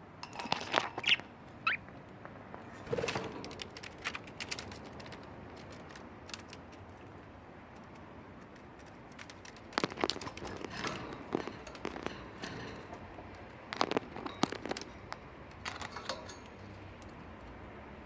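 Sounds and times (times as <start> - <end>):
budgies clicking and tapping: 0.3 - 18.0.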